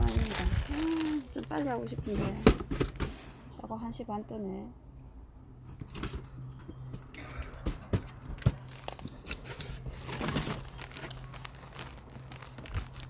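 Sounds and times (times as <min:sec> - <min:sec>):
handling rustle: 0:00.0 - 0:03.5, 0:05.7 - 0:13.0.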